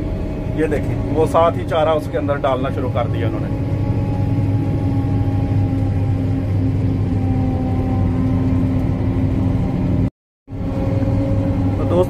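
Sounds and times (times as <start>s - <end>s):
harvester engine drone: 0.0s - 12.0s.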